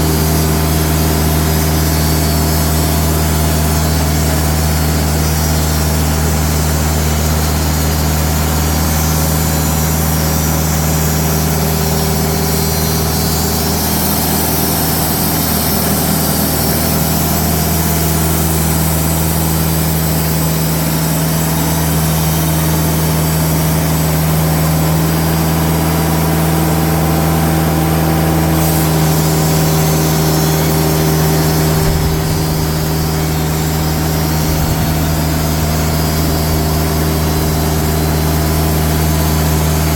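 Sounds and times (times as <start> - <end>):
diesel sawmill engine humming: 0.0 - 39.9.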